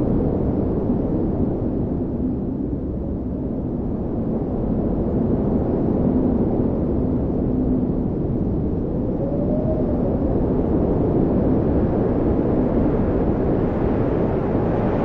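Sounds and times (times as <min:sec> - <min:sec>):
blizzard wind rushing: 0:00.0 - 0:15.0
low howling wind tone: 0:00.0 - 0:15.0.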